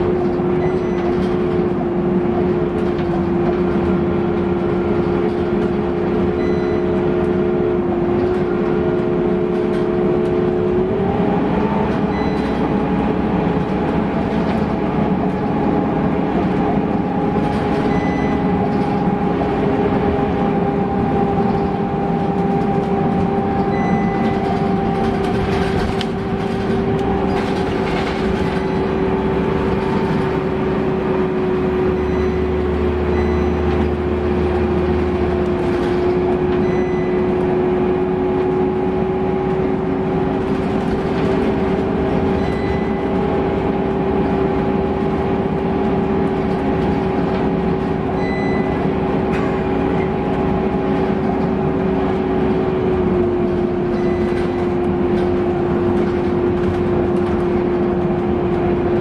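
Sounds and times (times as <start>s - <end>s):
bus engine and gearbox whine: 0.0s - 59.0s
road noise: 0.0s - 59.0s.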